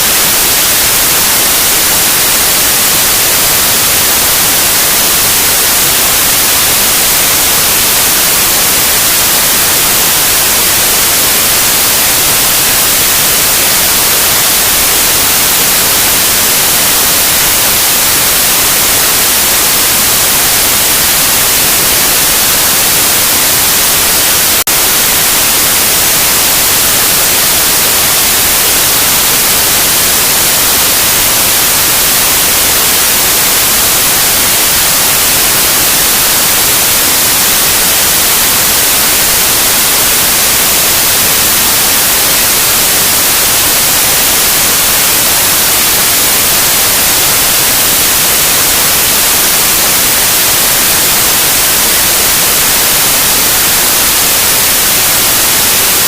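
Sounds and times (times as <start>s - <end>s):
loud white noise hiss: 0.0s - 56.0s.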